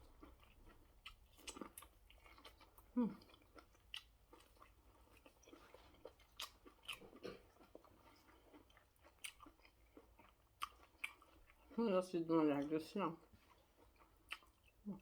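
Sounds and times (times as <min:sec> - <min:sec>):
faint chewing of food: 0:00.0 - 0:15.0.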